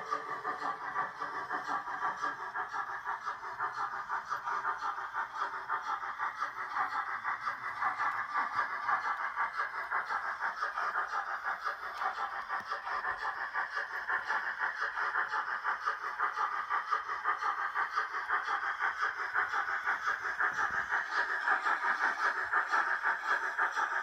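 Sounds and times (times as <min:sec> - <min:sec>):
model locomotive steam chuffing: 0:00.0 - 0:24.0.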